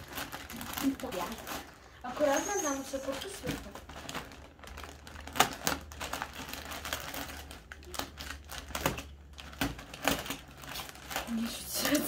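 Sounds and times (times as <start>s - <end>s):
plastic bag crinkling and tearing: 0.0s - 12.0s.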